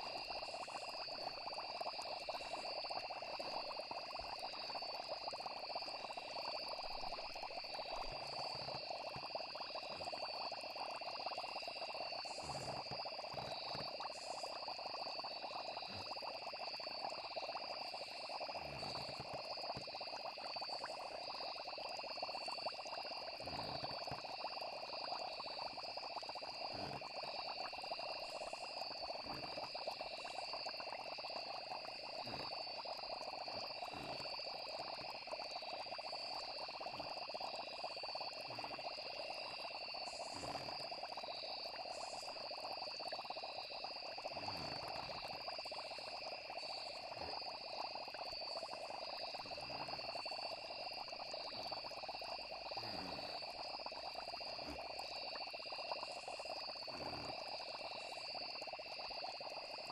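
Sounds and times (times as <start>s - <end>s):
frogs calling: 0.0s - 59.9s
insects trilling: 0.0s - 59.9s.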